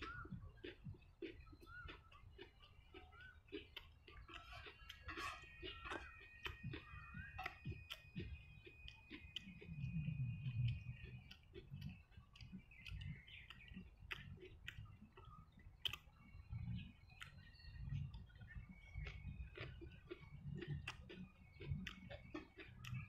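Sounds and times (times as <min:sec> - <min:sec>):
wet mouth clicks and smacks: 0:00.0 - 0:10.0, 0:10.7 - 0:16.2, 0:17.1 - 0:23.0
person chewing food: 0:00.0 - 0:23.0.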